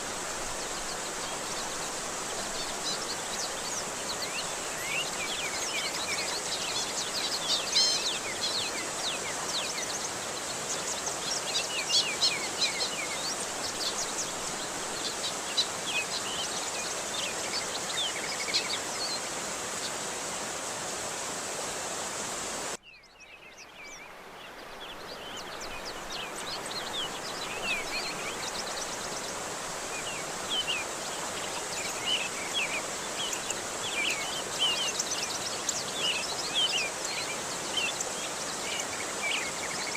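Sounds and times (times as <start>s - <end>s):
small birds chirping: 0.0s - 20.2s, 22.8s - 39.9s
rushing water: 0.0s - 22.8s, 23.6s - 39.9s.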